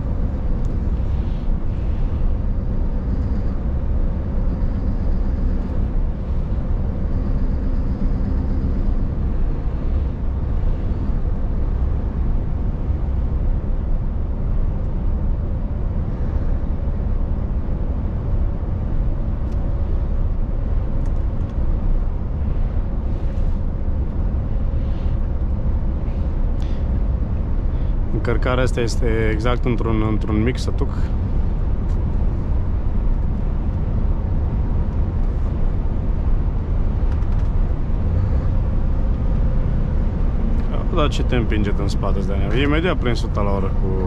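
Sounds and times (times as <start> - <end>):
faint steady hum: 0.0 - 44.0
truck engine low rumble: 0.0 - 44.0.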